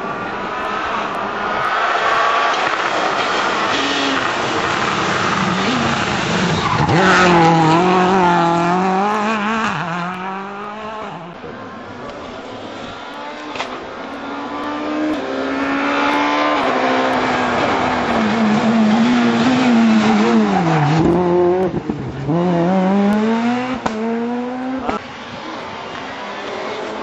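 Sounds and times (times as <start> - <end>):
rally car engine revving: 0.0 - 11.4, 12.1 - 27.0
rushing tyre noise: 0.0 - 27.0.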